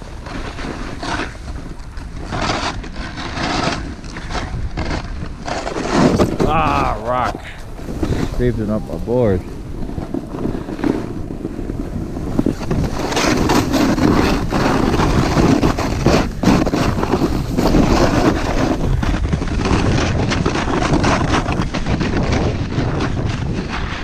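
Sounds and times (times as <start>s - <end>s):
snowboard scraping over snow: 0.0s - 24.0s
wind rushing over microphone: 0.0s - 24.0s.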